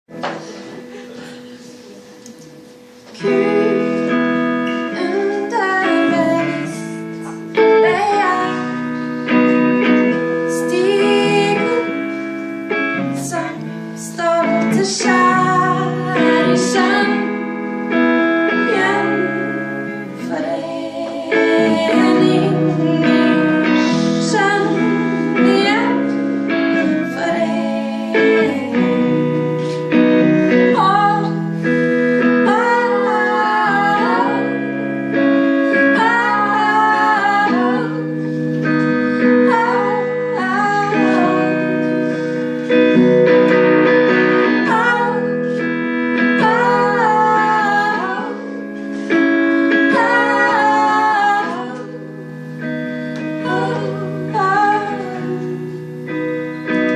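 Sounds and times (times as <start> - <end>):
held instrumental chords: 0.1 - 56.9
woman singing: 3.0 - 56.9.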